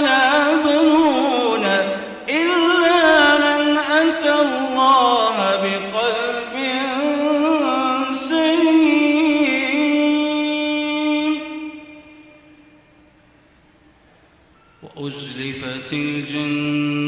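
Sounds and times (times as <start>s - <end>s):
man chanting melodically: 0.0s - 12.4s, 14.8s - 17.0s.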